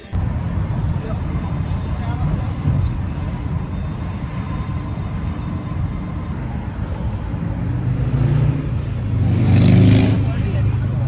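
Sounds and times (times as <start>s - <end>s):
passing vehicles rumbling: 0.0s - 11.0s.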